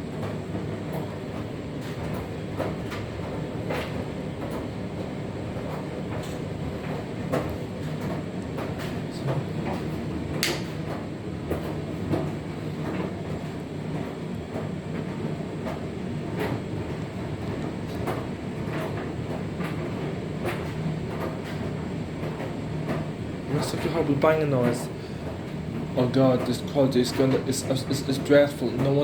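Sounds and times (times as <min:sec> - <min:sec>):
tumble dryer humming: 0:00.0 - 0:29.0.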